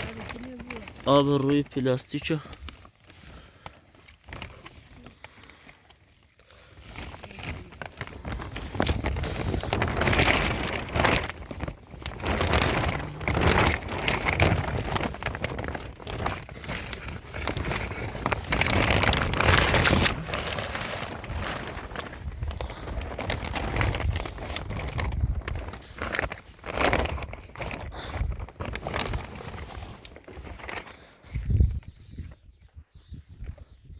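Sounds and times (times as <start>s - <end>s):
plastic sheeting rustling: 0.0s - 31.8s.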